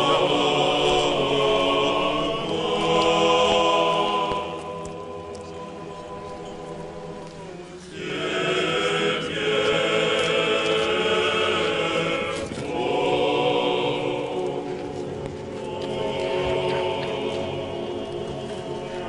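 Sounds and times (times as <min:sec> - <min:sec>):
choir singing a chant: 0:00.0 - 0:19.0.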